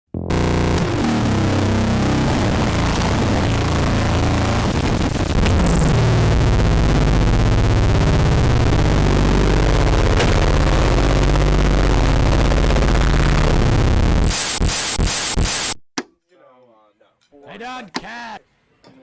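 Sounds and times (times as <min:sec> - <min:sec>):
heavily distorted noise: 0:00.1 - 0:15.8
low droning bass: 0:00.2 - 0:15.7.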